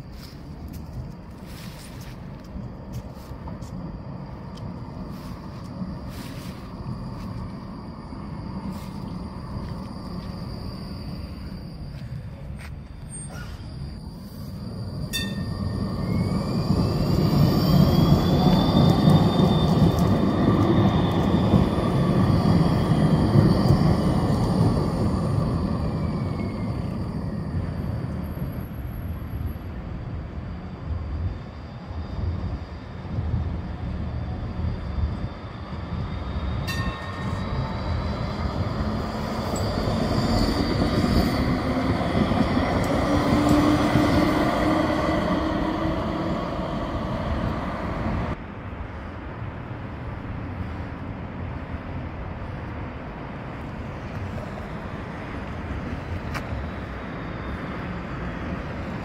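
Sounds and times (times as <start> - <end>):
street traffic noise: 0.0 - 59.0
tram electric drive whining: 0.0 - 59.0
tram wheels rumbling on rails: 0.0 - 59.0.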